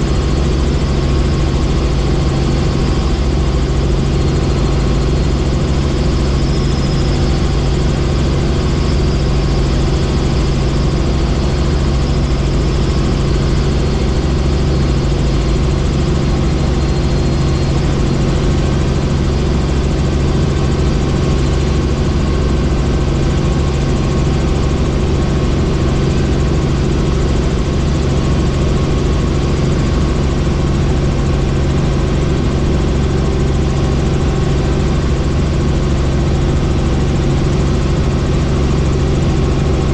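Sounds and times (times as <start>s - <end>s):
faint high whine: 0.0s - 39.9s
helicopter engine and rotor drone: 0.0s - 39.9s.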